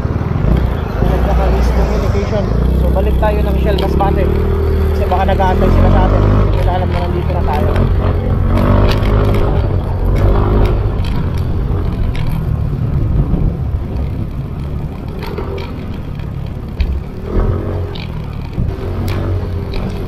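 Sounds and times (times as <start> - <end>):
wind rumble on microphone: 0.0 - 20.0
scooter engine running: 2.6 - 20.0.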